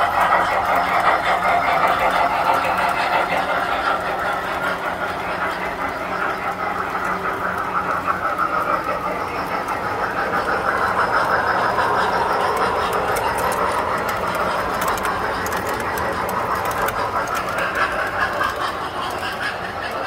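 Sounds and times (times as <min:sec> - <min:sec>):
clicking over rail joints: 0:00.0 - 0:20.0
toy train whirring on track: 0:00.0 - 0:20.0.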